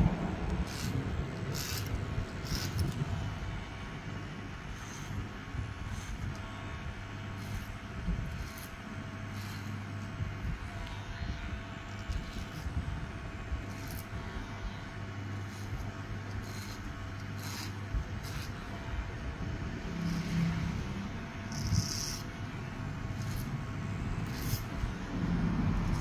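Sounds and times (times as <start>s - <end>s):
electric hair clipper buzzing: 0.0s - 26.0s.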